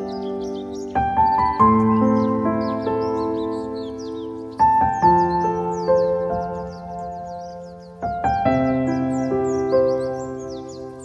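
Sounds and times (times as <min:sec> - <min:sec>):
soft keyboard chords: 0:00.0 - 0:11.0.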